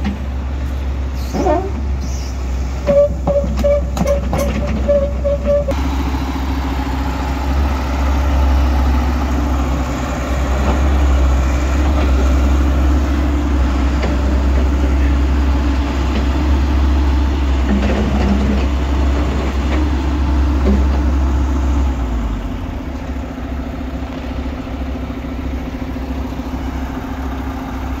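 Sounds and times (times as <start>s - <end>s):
heavy diesel engines rumbling: 0.0s - 28.0s.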